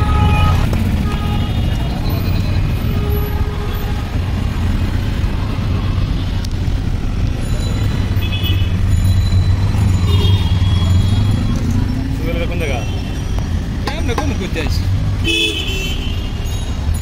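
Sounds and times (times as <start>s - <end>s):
road traffic drone: 0.0s - 17.0s.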